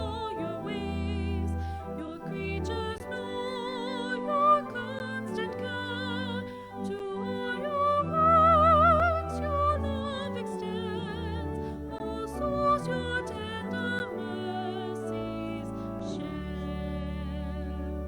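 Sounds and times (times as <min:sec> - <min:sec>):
solo singer with vibrato: 0:00.0 - 0:18.0
sustained accompaniment chords: 0:00.0 - 0:18.0.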